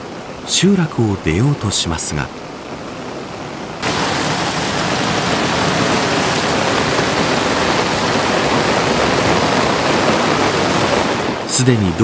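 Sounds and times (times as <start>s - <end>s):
floodwater rushing: 0.0s - 12.0s
torrential rain: 0.0s - 12.0s.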